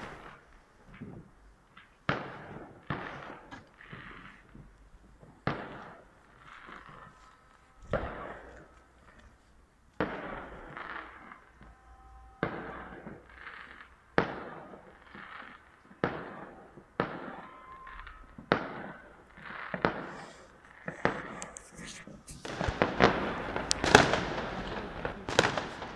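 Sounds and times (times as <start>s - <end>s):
fireworks bangs echoing: 0.0s - 9.2s, 9.9s - 11.5s, 12.4s - 25.9s.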